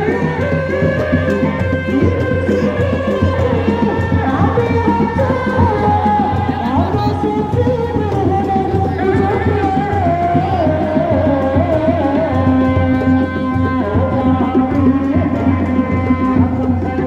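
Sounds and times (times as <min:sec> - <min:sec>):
drums beating: 0:00.0 - 0:17.0.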